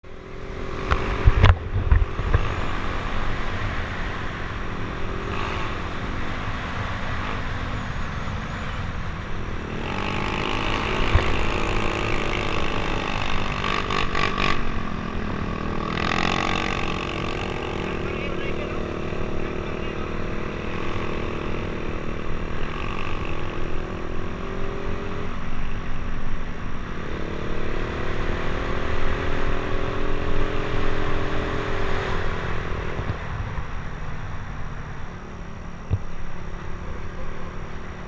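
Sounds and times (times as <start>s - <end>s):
motorcycle exhaust note: 0.1s - 38.0s.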